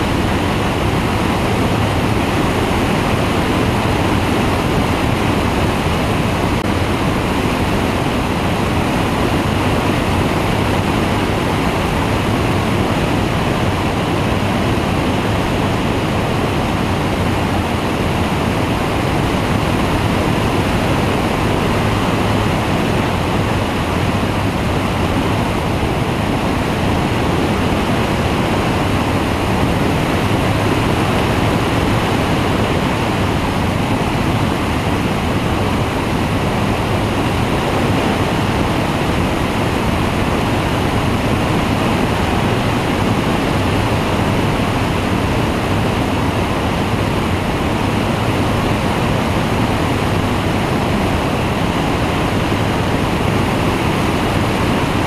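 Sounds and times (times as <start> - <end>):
engine and propeller running: 0.0 - 55.0
wind buffeting microphone: 0.0 - 55.0.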